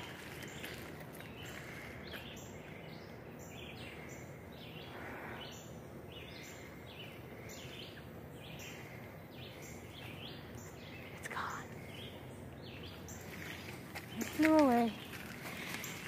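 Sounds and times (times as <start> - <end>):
faint forest background: 0.0 - 16.0
songbird calling: 0.0 - 16.0.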